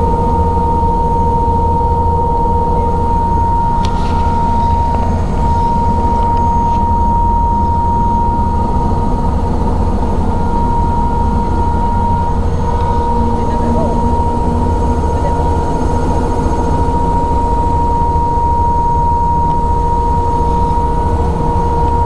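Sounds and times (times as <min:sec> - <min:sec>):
helicopter drone with high whine: 0:00.0 - 0:22.0.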